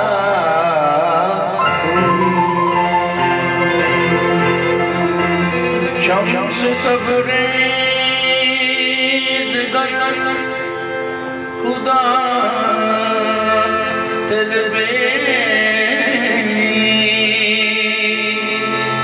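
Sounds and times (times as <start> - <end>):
harmonium chords: 0.0 - 19.0
person singing: 0.0 - 19.0.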